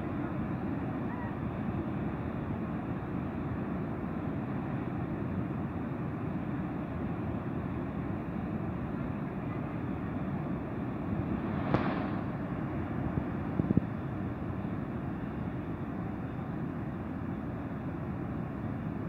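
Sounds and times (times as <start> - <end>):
waterfall roaring: 2.8 - 19.0.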